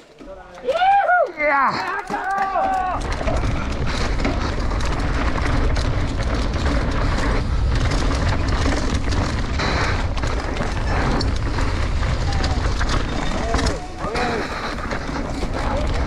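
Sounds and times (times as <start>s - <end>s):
bike rattling clicks and knocks: 0.0s - 16.0s
tyres rumbling on dirt: 0.0s - 16.0s
wind buffeting microphone: 2.8s - 16.0s.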